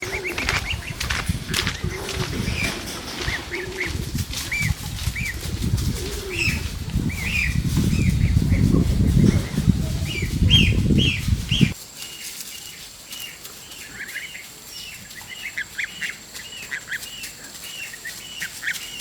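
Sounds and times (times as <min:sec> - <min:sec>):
birds peeping: 0:00.0 - 0:19.0
lower bird calls: 0:00.0 - 0:19.0
wings flapping and rustling: 0:00.0 - 0:19.0.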